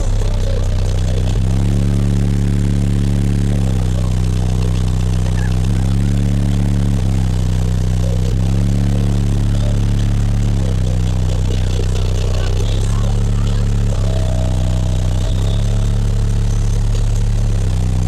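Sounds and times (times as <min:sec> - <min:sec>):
distorted deep bass from subwoofers: 0:00.0 - 0:18.0.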